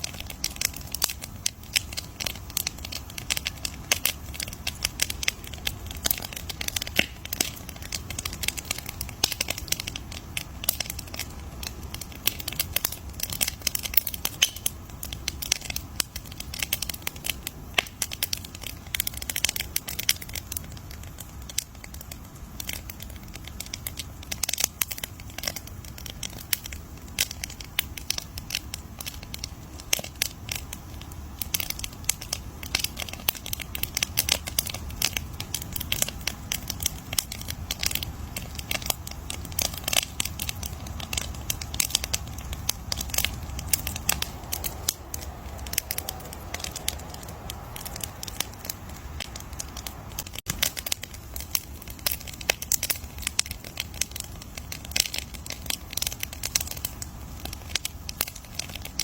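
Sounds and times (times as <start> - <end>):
campfire crackling and popping: 0.0 - 59.0
low rumble of burning wood: 0.0 - 59.0.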